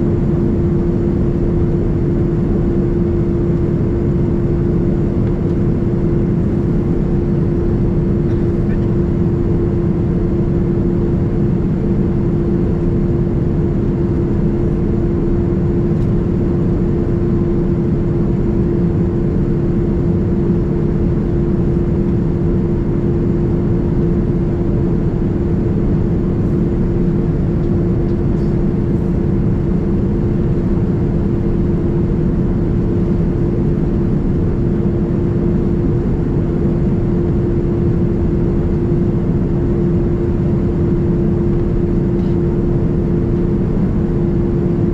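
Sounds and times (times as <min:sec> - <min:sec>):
airplane cabin engine drone: 0:00.0 - 0:44.9
steady low hum: 0:00.0 - 0:44.9.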